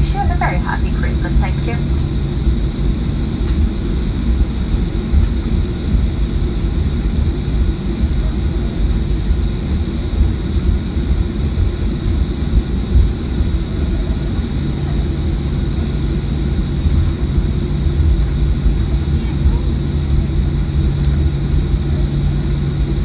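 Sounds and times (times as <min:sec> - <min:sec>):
aircraft engines low rumble: 0:00.0 - 0:23.0
aircraft rolling over taxiway: 0:00.0 - 0:23.0
faint high whine: 0:00.0 - 0:23.0.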